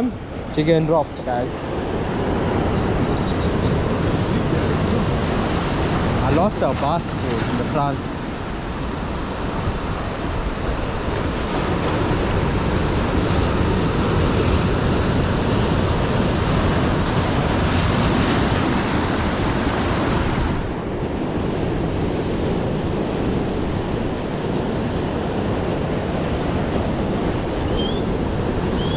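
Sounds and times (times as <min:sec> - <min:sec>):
surf breaking on shore: 0:00.0 - 0:28.9
wind buffeting microphone: 0:00.0 - 0:28.9.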